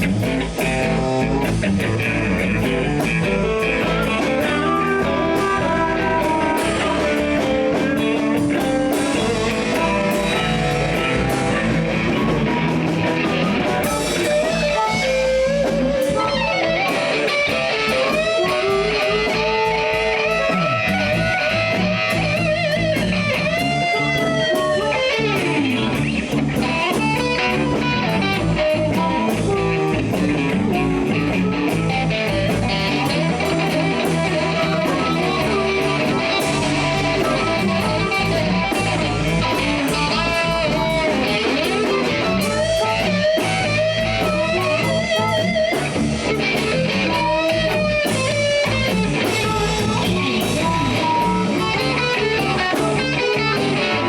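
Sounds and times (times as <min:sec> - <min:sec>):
bass and drums: 0:00.0 - 0:54.0
electric guitar lead: 0:00.0 - 0:54.0.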